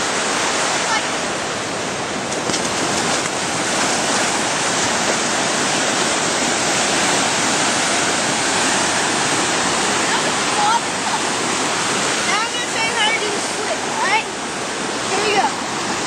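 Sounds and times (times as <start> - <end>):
ocean surf washing on sand: 0.0 - 16.0.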